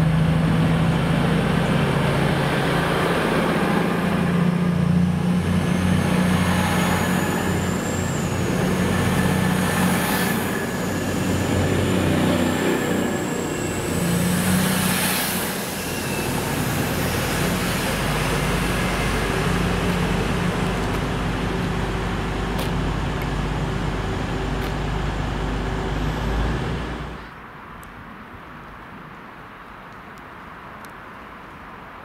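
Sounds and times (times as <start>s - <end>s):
train passing: 0.0s - 27.3s.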